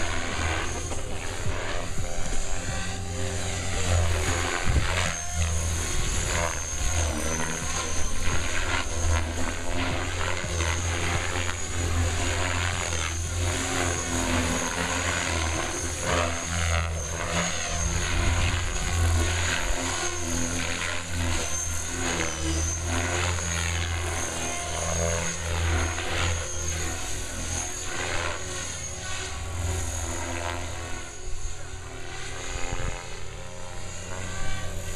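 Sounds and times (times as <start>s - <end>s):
model helicopter rotor chopping: 0.0s - 34.9s.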